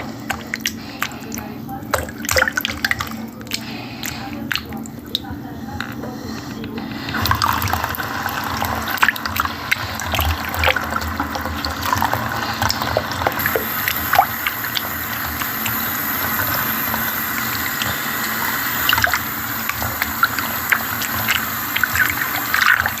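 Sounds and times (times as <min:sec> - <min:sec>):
tap water running into sink: 0:00.0 - 0:06.0, 0:07.2 - 0:23.0
water splashes and drips: 0:00.2 - 0:05.3, 0:07.2 - 0:23.0.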